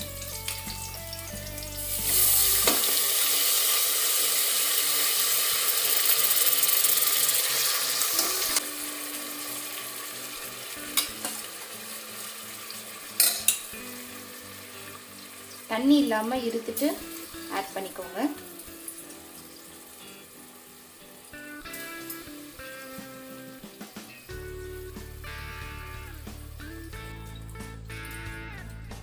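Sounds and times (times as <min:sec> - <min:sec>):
rice sizzling in hot oil: 0:00.0 - 0:28.4.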